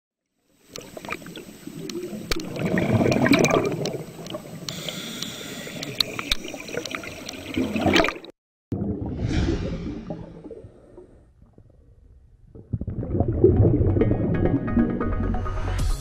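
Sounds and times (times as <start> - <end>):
underwater bubbling and gurgling: 0.5 - 15.0.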